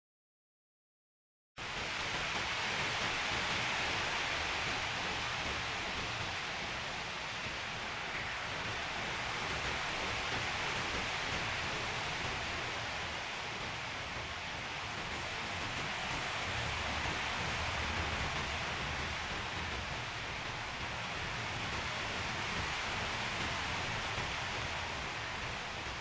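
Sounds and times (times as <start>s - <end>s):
wind blowing: 2.5s - 26.0s.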